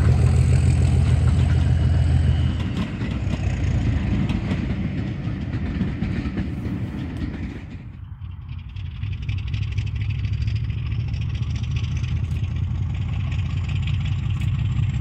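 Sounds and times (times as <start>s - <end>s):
train rumbling on the track: 0.0s - 15.0s
train wheel clicks: 0.0s - 15.0s.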